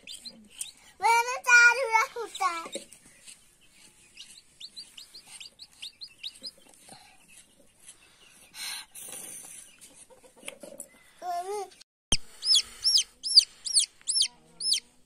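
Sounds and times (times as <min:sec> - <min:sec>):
chick peeping: 0:00.0 - 0:08.9, 0:09.6 - 0:11.0, 0:12.1 - 0:15.0.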